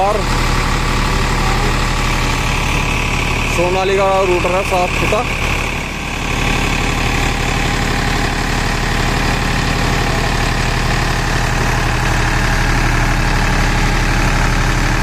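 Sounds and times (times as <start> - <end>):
diesel tractor engine under load: 0.0 - 15.0.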